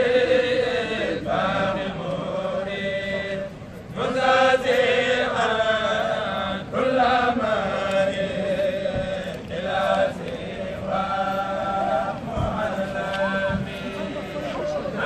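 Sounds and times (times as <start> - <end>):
voices chanting devotional verses: 0.0 - 15.0.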